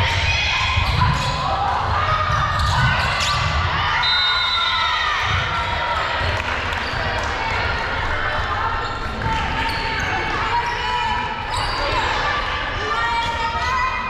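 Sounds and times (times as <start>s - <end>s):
players' voices: 0.0s - 14.0s.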